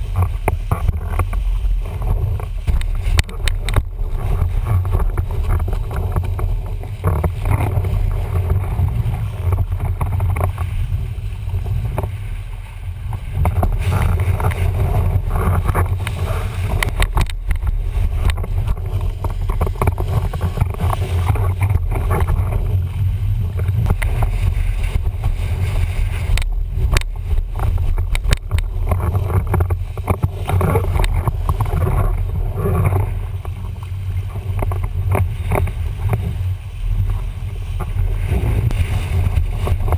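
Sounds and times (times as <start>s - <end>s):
low rumble: 0.0s - 39.9s
water rushing and splashing: 0.0s - 39.9s
wind buffeting microphone: 0.0s - 39.9s.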